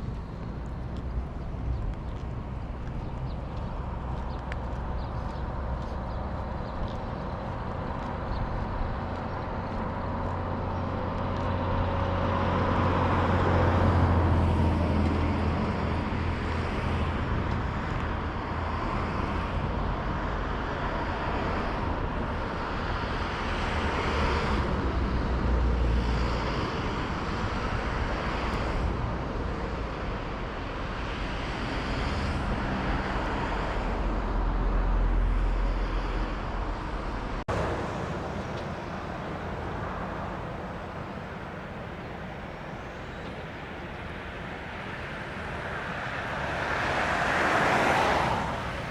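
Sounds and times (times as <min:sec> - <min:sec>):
low engine hum: 0:00.0 - 0:27.4, 0:31.9 - 0:48.9
vehicles passing: 0:00.0 - 0:48.9.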